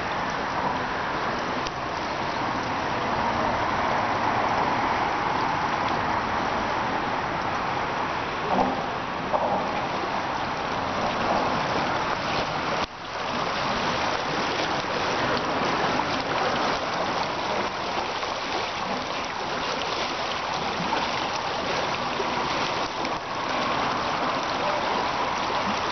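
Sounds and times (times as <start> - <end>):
river rushing over riffles: 0.0 - 25.9.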